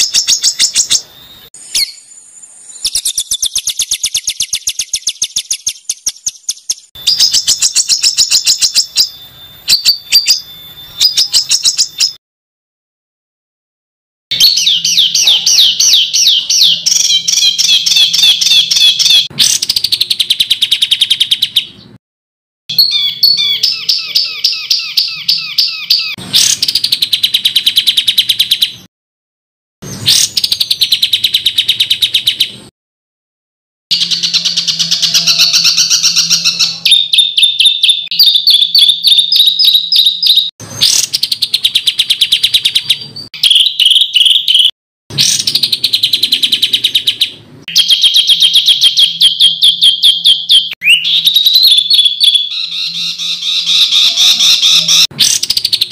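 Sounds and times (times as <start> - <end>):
songbird trills: 0.0 - 12.2, 14.3 - 21.8, 22.7 - 28.9, 33.9 - 55.9.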